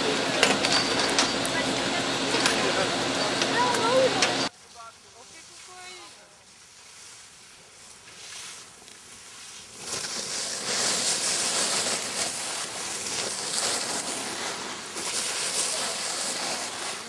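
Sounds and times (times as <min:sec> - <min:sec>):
skis scraping over snow: 0:01.4 - 0:17.0.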